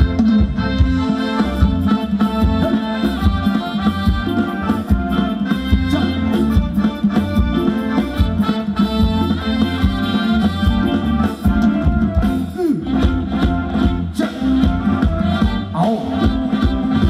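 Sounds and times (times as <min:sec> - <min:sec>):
live band dance music: 0:00.0 - 0:17.0.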